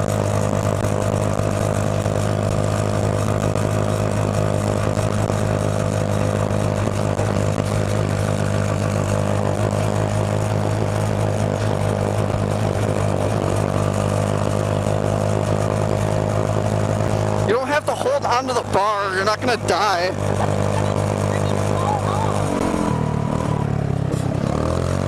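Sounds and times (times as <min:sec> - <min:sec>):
go-kart engine idling: 0:00.0 - 0:25.0.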